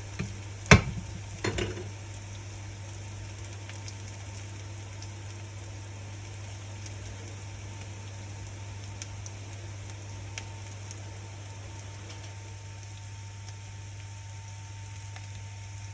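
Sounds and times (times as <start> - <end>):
food sizzling in a pan: 0.0 - 15.9.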